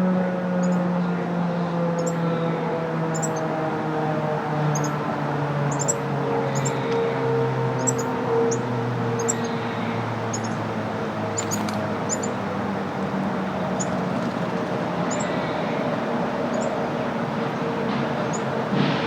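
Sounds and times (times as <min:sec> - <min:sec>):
road traffic hum: 0:00.0 - 0:19.0
small birds chirping: 0:00.5 - 0:18.6.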